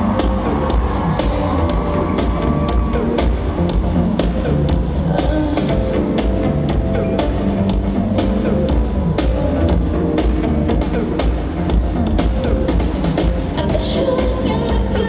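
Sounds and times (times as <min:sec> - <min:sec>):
heavy drum beat: 0:00.0 - 0:13.9
live pop music over sound system: 0:00.0 - 0:15.0.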